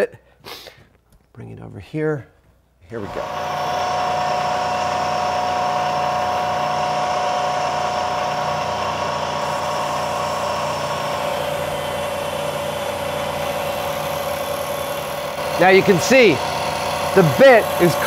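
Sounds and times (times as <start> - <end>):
milling machine whine and hum: 3.0 - 18.0.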